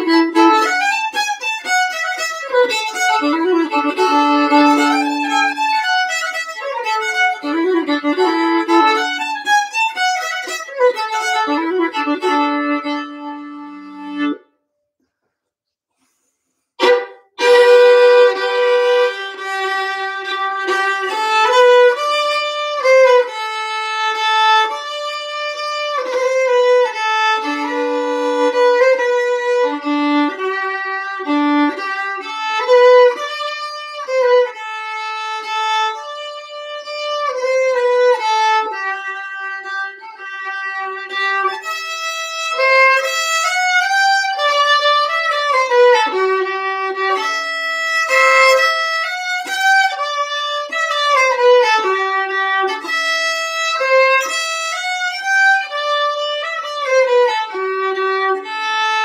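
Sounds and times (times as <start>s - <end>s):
solo fiddle playing lively melody: 0.0s - 14.5s, 16.8s - 59.0s.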